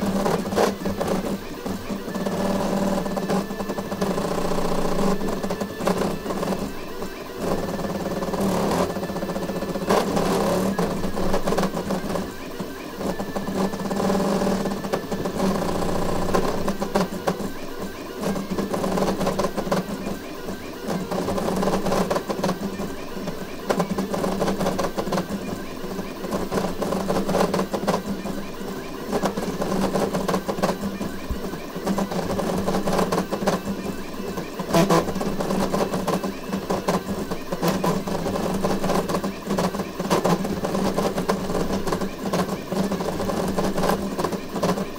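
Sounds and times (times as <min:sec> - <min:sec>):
steady hum: 0:00.0 - 0:44.9
stepper motors whining and buzzing: 0:00.0 - 0:44.9.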